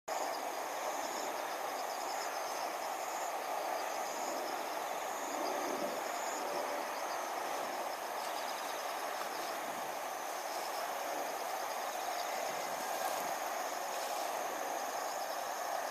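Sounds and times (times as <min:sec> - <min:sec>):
background hiss: 0:00.1 - 0:15.9
insects trilling: 0:00.1 - 0:15.9.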